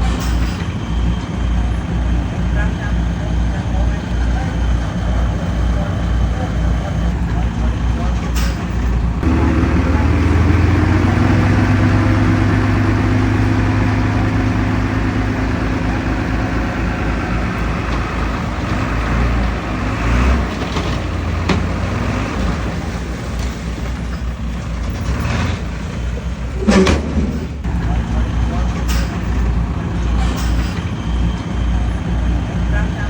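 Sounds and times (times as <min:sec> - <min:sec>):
diesel engine drone: 0:00.0 - 0:33.0.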